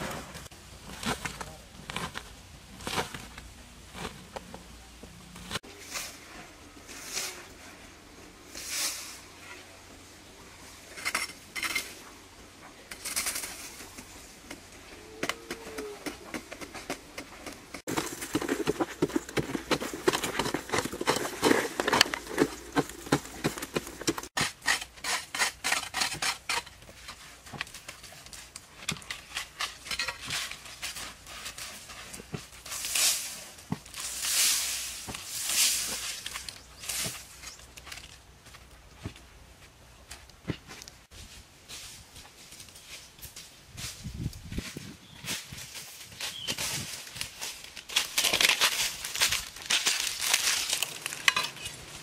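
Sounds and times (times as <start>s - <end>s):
shovel scraping dry soil: 0.0s - 9.8s, 12.8s - 38.2s, 40.5s - 52.0s.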